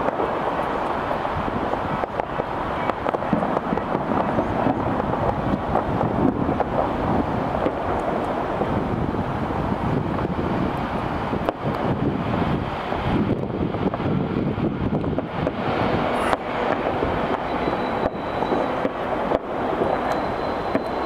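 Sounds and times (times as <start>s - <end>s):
distant fireworks popping: 0.0s - 21.0s
wind rumbling on microphone: 0.0s - 21.0s.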